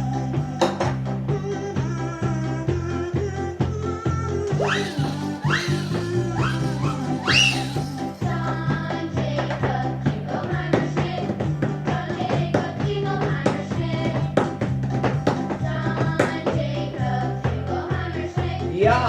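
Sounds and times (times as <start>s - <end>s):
children's sing-along music: 0.0s - 19.0s.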